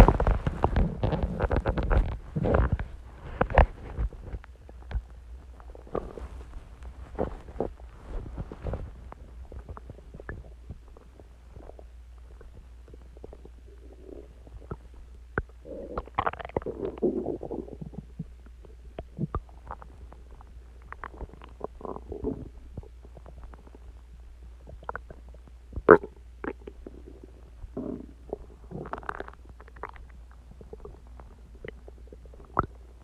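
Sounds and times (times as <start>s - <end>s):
stomach growling and gurgling: 0.0s - 33.0s.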